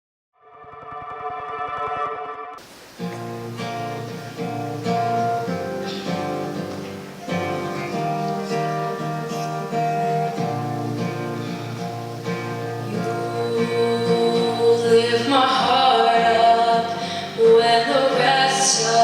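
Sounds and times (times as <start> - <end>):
acoustic guitar chords: 2.6 - 19.0.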